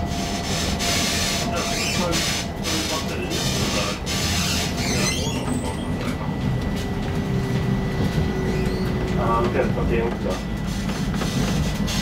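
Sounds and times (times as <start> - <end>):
tram wheels rumbling: 0.0 - 12.0.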